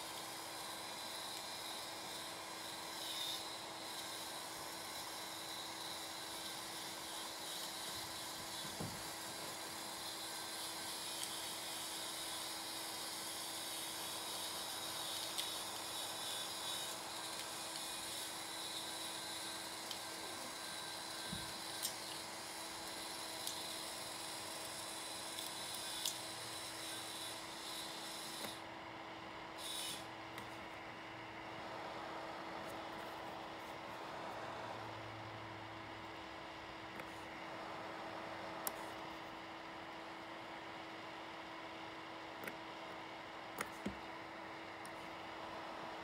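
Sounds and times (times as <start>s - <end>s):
electric hoist motor humming: 0.0s - 46.0s.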